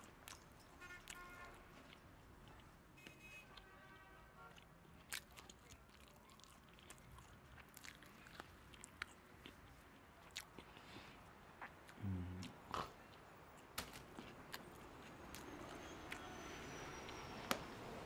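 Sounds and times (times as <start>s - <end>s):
person chewing food: 0.0s - 2.8s, 3.5s - 16.3s.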